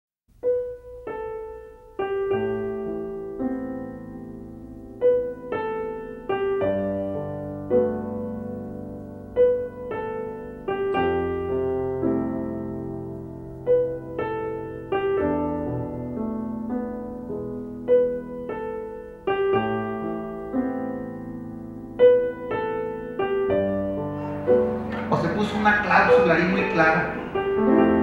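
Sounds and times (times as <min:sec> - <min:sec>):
slow gentle piano music: 0:00.3 - 0:28.0.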